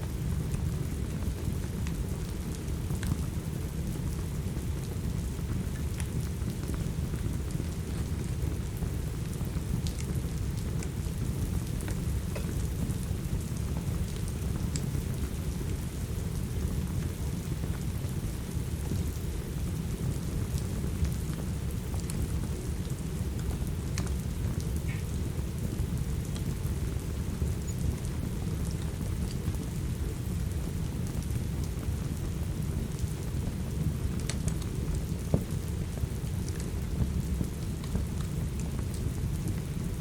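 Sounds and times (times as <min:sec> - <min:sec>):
faint crackles: 0:00.0 - 0:40.0.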